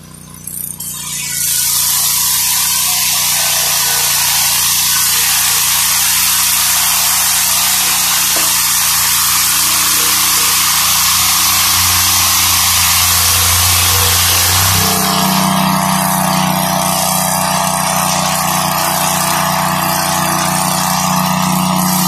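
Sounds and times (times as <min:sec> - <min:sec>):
engine drone under load: 0:00.0 - 0:22.0
saw blade rasping through wood: 0:00.7 - 0:22.0.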